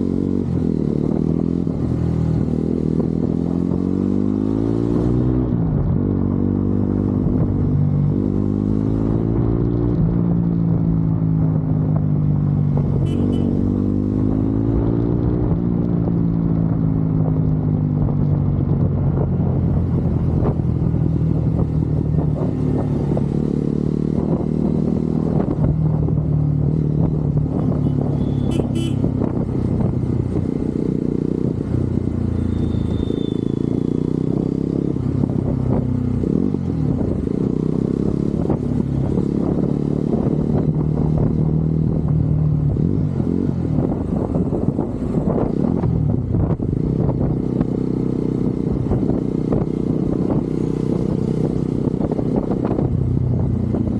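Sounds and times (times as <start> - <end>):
motorcycle engine running: 5.9 - 15.0, 15.6 - 53.9.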